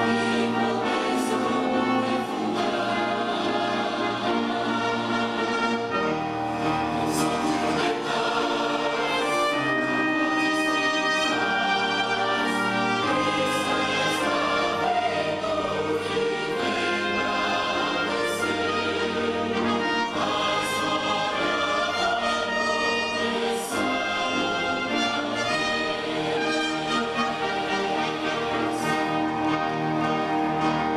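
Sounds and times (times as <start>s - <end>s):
choir singing sacred music: 0.0s - 30.9s
string orchestra: 0.0s - 30.9s.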